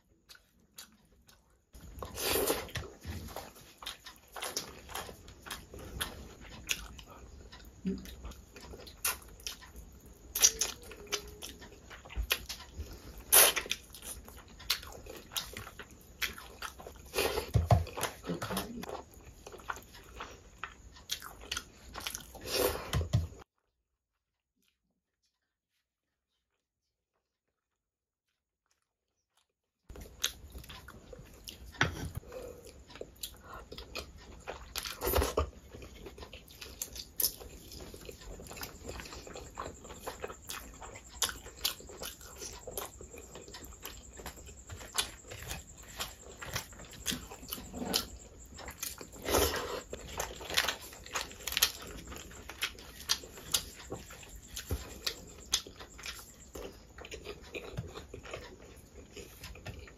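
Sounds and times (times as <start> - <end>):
person chewing food: 0.0 - 23.5, 27.2 - 59.9.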